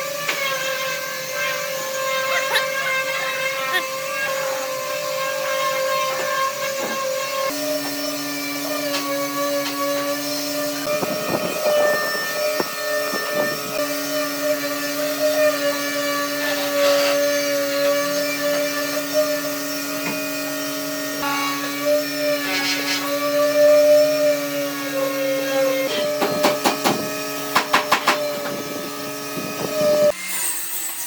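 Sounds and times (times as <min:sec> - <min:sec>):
power tool motor whining: 0:00.0 - 0:31.0.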